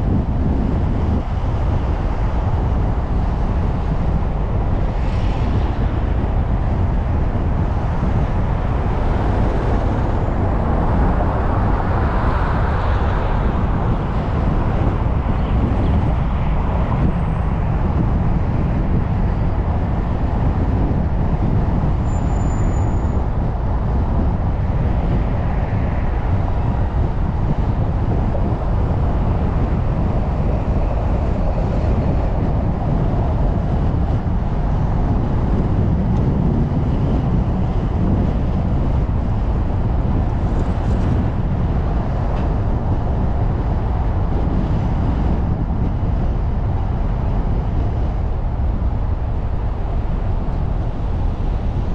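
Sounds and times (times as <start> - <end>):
car driving on street: 0.0 - 51.9
surrounding traffic: 0.0 - 51.9.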